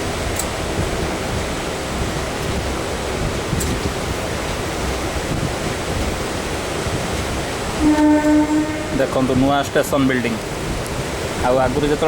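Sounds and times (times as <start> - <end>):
electric train rushing noise: 0.0 - 12.0
wind buffeting microphone: 0.0 - 12.0.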